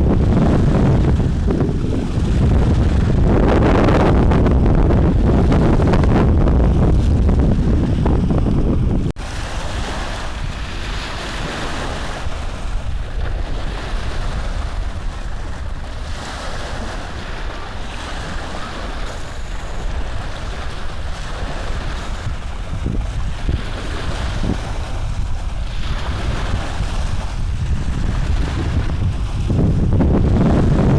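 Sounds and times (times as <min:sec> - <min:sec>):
wind noise on microphone: 0:00.0 - 0:30.9.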